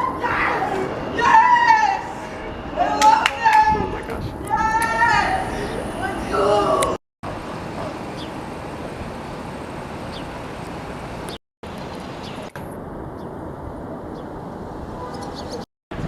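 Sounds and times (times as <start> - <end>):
engine roar: 0.0 - 13.0.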